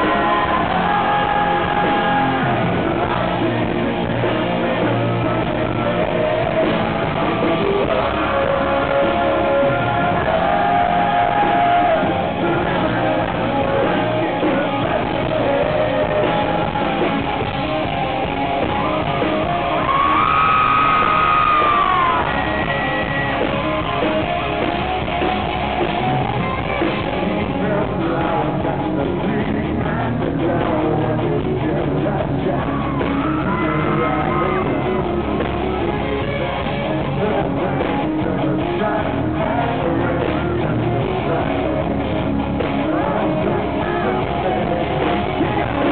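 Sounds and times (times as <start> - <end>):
electric guitar: 0.0 - 45.9
man singing: 0.0 - 45.9.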